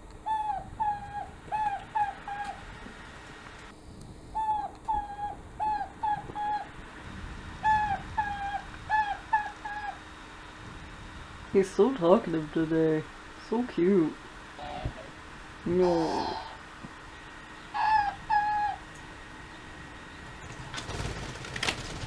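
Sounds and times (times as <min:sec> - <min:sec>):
dove calling: 0:00.0 - 0:10.6, 0:14.4 - 0:22.0.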